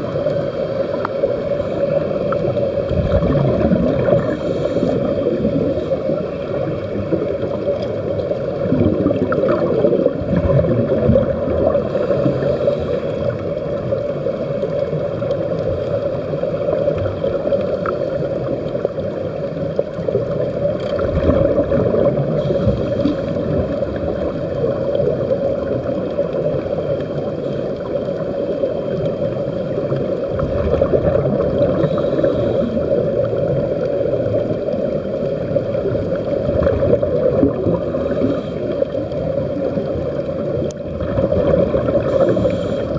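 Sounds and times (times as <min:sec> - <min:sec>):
underwater air bubbling: 0:00.0 - 0:42.9.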